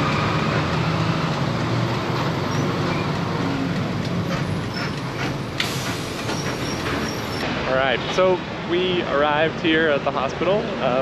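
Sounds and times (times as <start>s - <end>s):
bus running noise: 0.0s - 11.0s.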